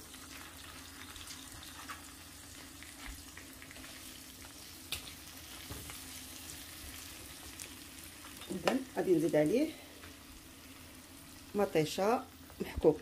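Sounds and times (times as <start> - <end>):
food sizzling in clay pot: 0.0 - 13.0.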